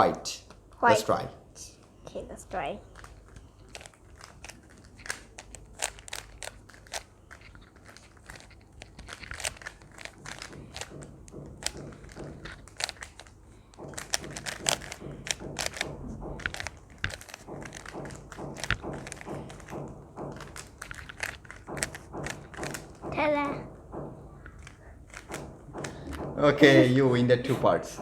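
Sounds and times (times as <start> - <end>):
puzzle cube clicking: 2.8 - 23.6, 24.4 - 26.3.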